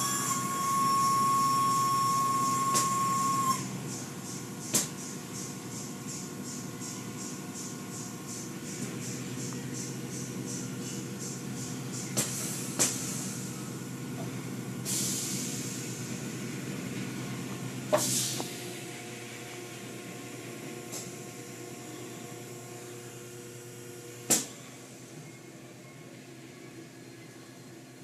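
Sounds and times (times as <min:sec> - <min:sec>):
car wash machinery humming: 0:00.0 - 0:28.0.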